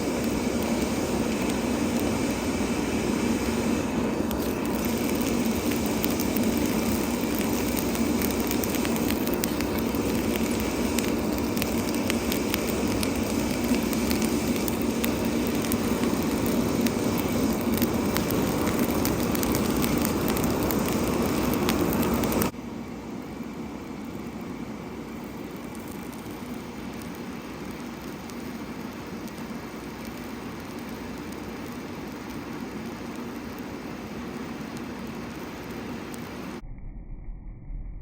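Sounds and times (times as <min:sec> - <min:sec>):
fire crackling: 0:00.0 - 0:36.6
forge fire under air blast: 0:00.0 - 0:36.6.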